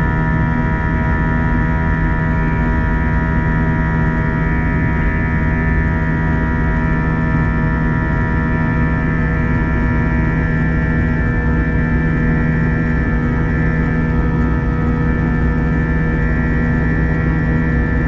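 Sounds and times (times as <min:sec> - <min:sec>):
jet engine cabin drone: 0:00.0 - 0:18.0
steady humming tones: 0:00.0 - 0:18.0.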